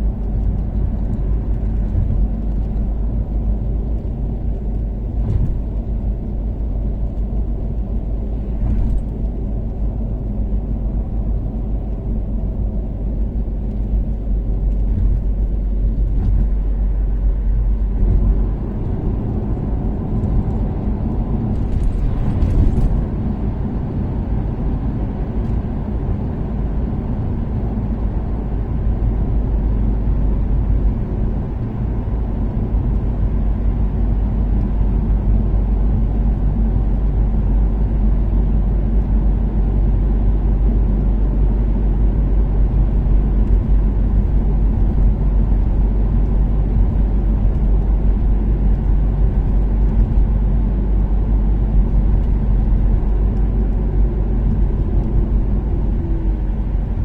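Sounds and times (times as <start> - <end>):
car engine cruising: 0.0 - 57.0
road noise: 0.0 - 57.0.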